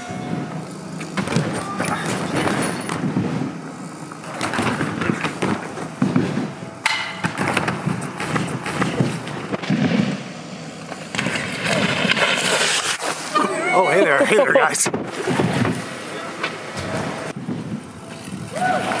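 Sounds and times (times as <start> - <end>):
bike rattling over gravel: 0.3 - 19.0.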